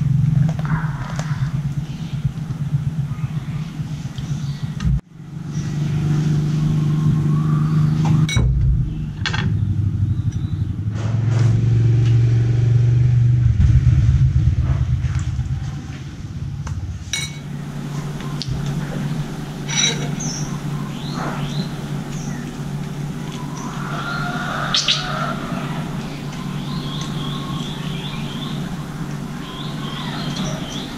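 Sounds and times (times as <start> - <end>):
birds chirping: 0.0 - 11.0, 16.4 - 30.9
engine humming: 0.0 - 30.9.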